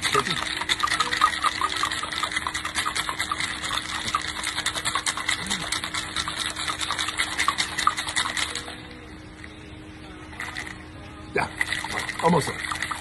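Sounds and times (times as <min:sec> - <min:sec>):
ice rattling in cocktail shaker: 0:00.0 - 0:08.9, 0:10.3 - 0:10.8, 0:11.4 - 0:13.0.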